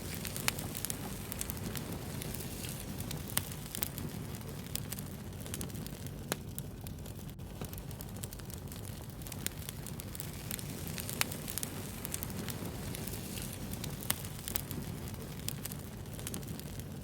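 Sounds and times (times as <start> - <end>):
fire crackles and pops: 0.0 - 17.0
wood fire rumbling: 0.0 - 17.0.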